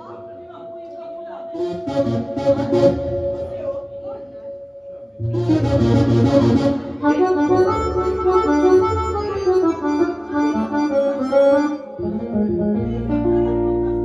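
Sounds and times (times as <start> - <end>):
electronic keyboard music: 0.0 - 14.0.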